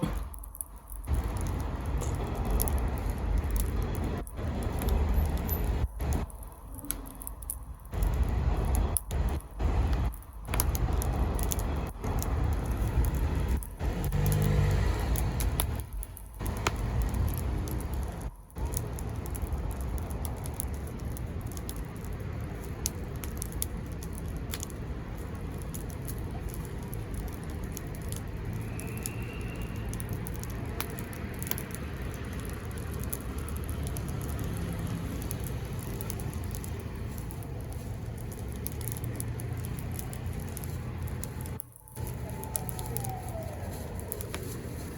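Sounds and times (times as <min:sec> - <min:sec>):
bonfire crackling and popping: 0:00.0 - 0:44.9
low fire rumble: 0:00.0 - 0:44.9.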